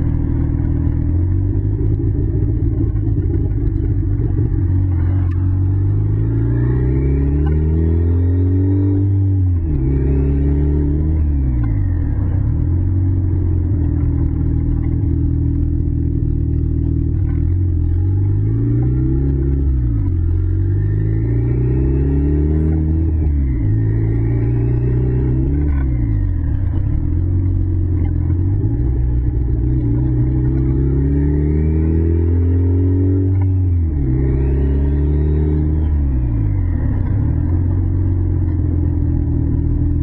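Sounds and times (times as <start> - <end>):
car engine and exhaust: 0.0 - 40.0.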